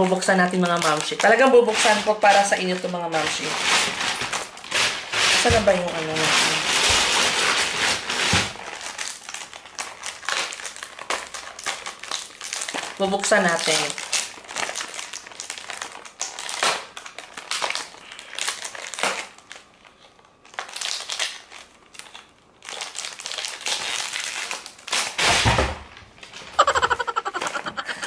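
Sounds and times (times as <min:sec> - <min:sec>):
wrapping crinkling and tearing: 0:00.0 - 0:28.0.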